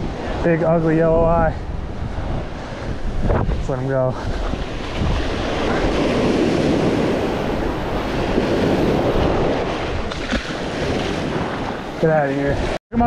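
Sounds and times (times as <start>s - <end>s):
wind on microphone: 0.0s - 13.0s
waves breaking in surf: 1.6s - 13.0s.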